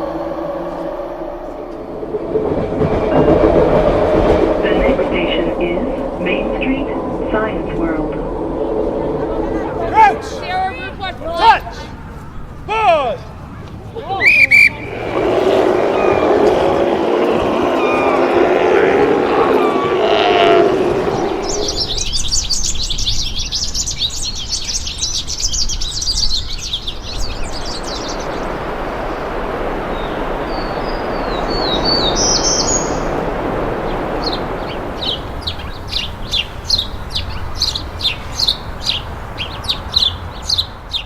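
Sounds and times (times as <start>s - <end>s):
birds chirping: 0.0s - 41.0s
steady rushing noise: 0.0s - 41.0s.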